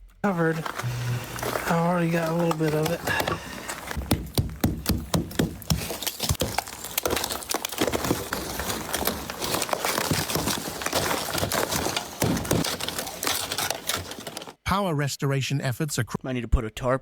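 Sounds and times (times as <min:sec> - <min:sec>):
ice crunching and cracking: 0:00.0 - 0:14.6.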